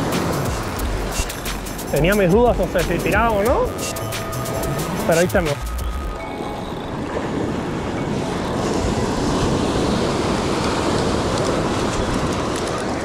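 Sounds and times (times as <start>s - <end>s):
ocean surf washing up beach: 0.0s - 13.0s.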